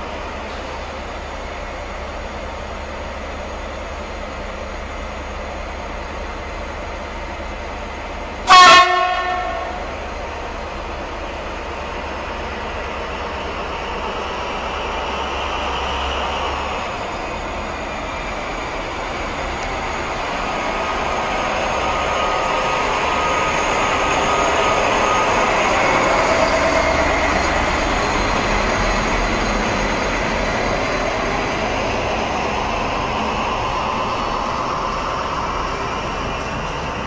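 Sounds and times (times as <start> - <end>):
diesel locomotive engine: 0.0 - 37.0
train wheels rolling on rails: 0.0 - 37.0.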